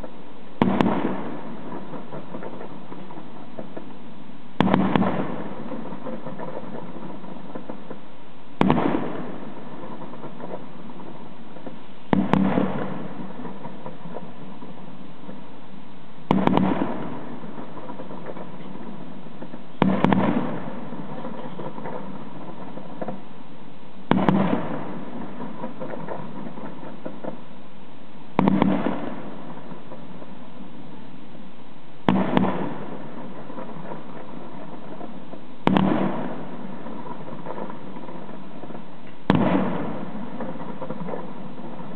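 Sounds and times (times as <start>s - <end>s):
fireworks exploding: 0.0s - 41.9s.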